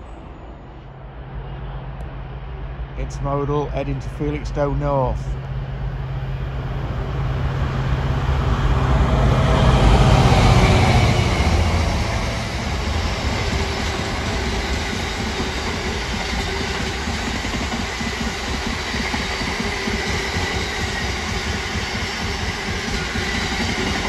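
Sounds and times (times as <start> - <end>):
diesel locomotive engine hum: 0.0 - 24.0.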